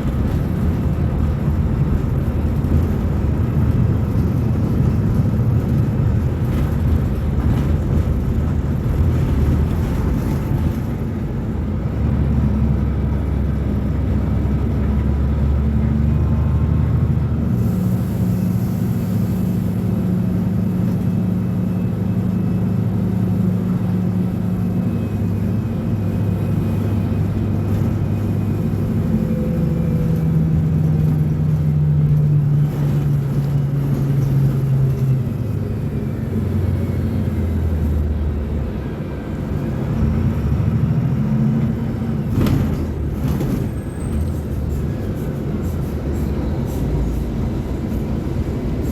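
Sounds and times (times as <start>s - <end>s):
bus diesel engine droning: 0.0s - 48.9s.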